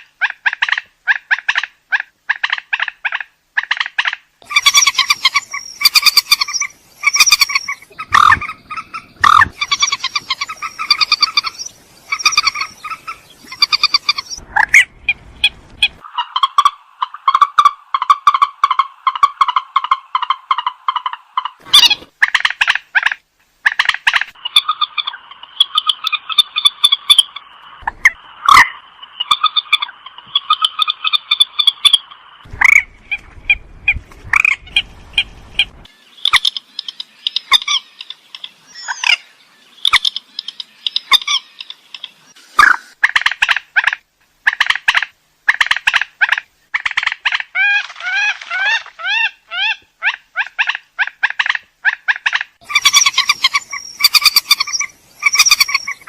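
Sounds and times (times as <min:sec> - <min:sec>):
swamphen calling: 0:00.2 - 0:33.6, 0:34.3 - 0:56.0.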